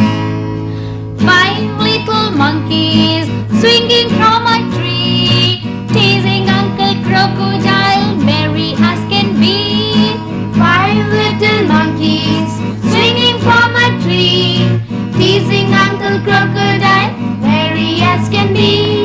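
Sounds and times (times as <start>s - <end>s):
instrumental accompaniment: 0.0s - 19.0s
children singing together: 1.3s - 19.0s.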